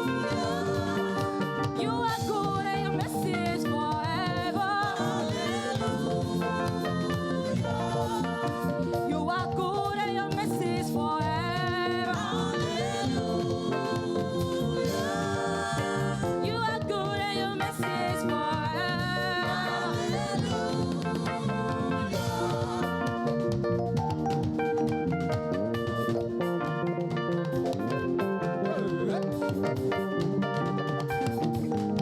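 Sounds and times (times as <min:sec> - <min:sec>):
gospel music with singer and band: 0:00.0 - 0:32.0.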